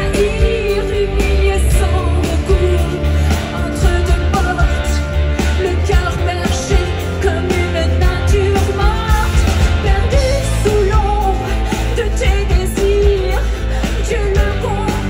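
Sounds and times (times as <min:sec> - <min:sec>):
bass guitar: 0:00.0 - 0:15.0
drums: 0:00.0 - 0:15.0
electric guitar: 0:00.0 - 0:15.0
keyboards: 0:00.0 - 0:15.0
woman singing: 0:00.0 - 0:15.0.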